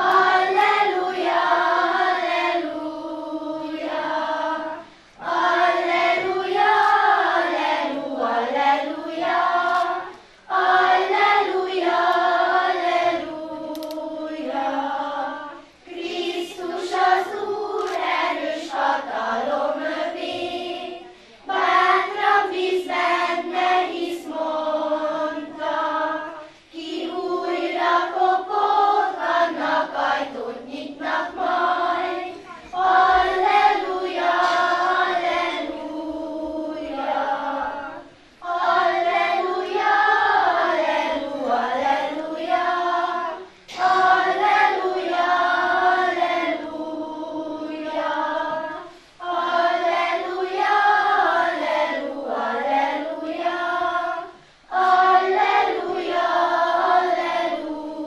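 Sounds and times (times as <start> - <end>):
girls choir singing: 0.0 - 58.0.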